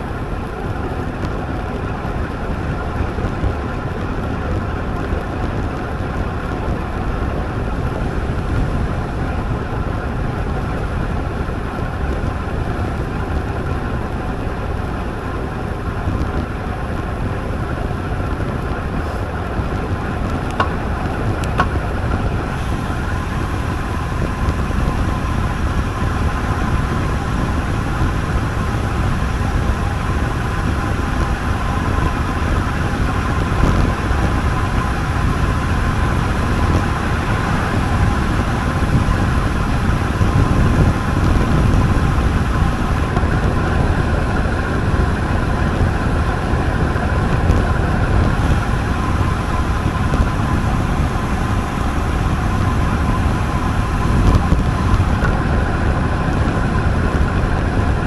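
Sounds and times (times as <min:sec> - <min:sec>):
low rumble: 0:00.0 - 0:58.0
tyres whining on road: 0:00.0 - 0:58.0
wind rush on microphone: 0:00.0 - 0:58.0.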